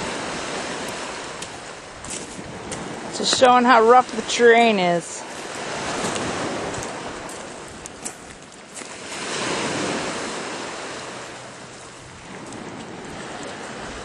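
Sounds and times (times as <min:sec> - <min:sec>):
surf washing on rocky shore: 0:00.0 - 0:14.0
wind buffeting microphone: 0:00.0 - 0:14.0.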